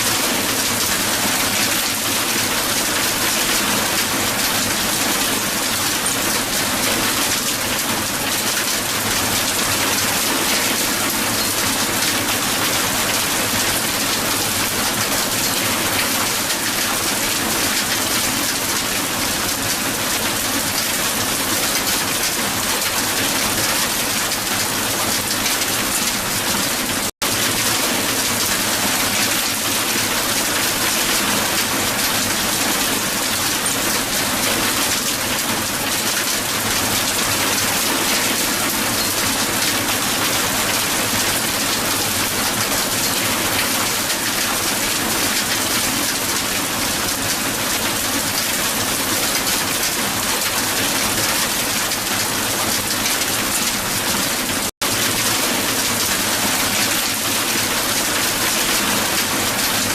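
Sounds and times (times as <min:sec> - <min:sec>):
hail pelting a hard surface: 0:00.1 - 0:59.9.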